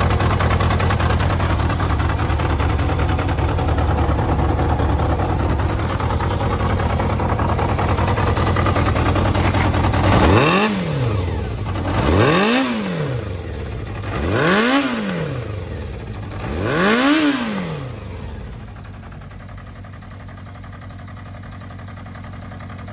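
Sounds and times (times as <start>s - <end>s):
motorcycle engine idling and revving: 0.0s - 22.9s.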